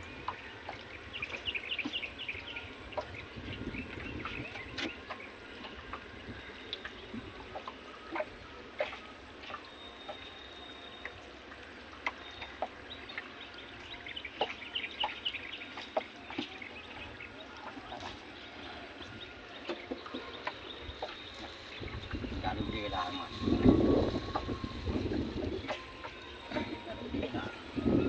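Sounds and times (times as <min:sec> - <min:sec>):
birds chirping: 0:00.0 - 0:28.0
steady background noise: 0:00.0 - 0:28.0.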